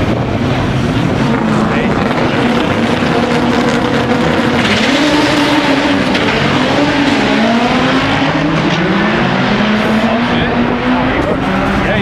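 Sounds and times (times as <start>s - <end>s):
drag car engine accelerating hard: 0.0s - 12.0s.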